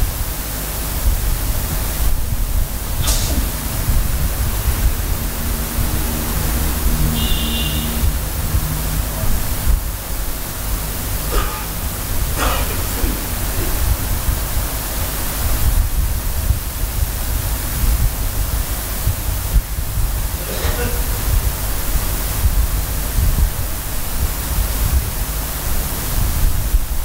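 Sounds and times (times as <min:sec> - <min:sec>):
room hiss: 0:00.0 - 0:27.0
low rumble: 0:00.8 - 0:25.2.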